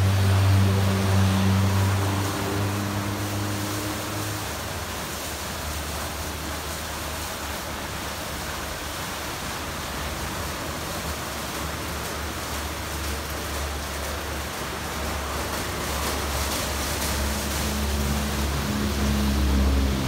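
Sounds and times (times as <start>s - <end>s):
car wash brushes and water spray: 0.0s - 20.0s.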